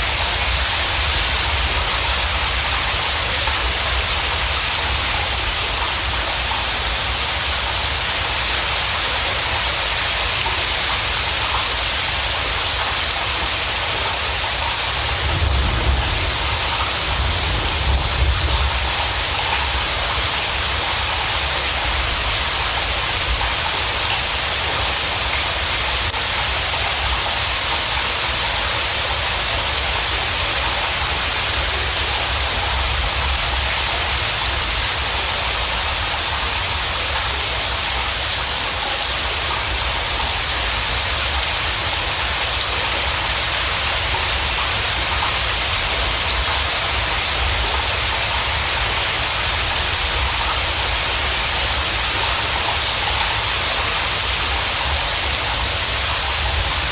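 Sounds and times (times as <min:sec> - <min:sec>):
steady rain patter: 0:00.0 - 0:56.9.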